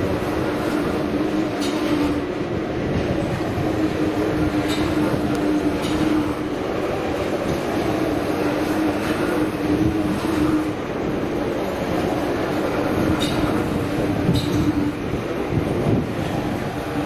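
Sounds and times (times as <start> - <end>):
train rolling noise with hum: 0.0 - 17.0.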